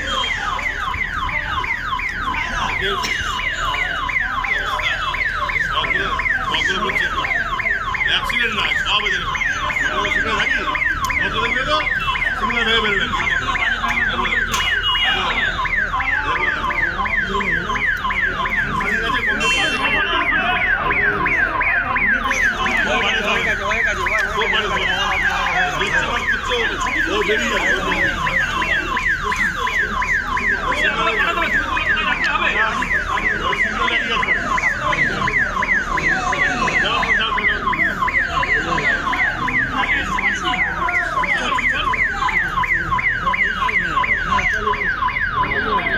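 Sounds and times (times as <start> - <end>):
electronic warning alarm: 0.0 - 45.9
murmur of crowd voices: 0.0 - 45.9.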